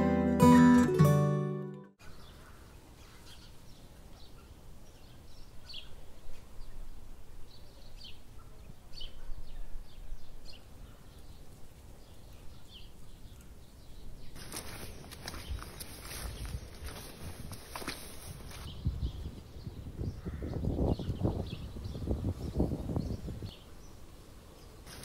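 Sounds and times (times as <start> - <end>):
small birds chirping: 2.0 - 25.0.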